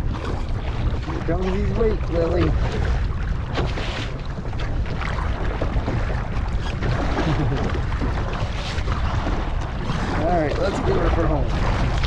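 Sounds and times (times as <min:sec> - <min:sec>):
water splashing around kayak: 0:00.0 - 0:12.0
wind buffeting microphone: 0:00.0 - 0:12.0.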